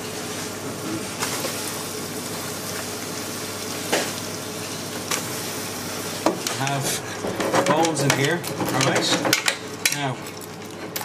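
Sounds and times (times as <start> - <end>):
vegetables sizzling in a pot: 0.0 - 8.8.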